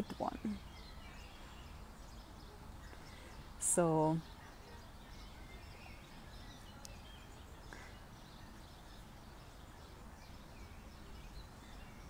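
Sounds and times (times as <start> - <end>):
distant birds chirping: 0.0 - 12.0
low steady background rumble: 0.0 - 12.0.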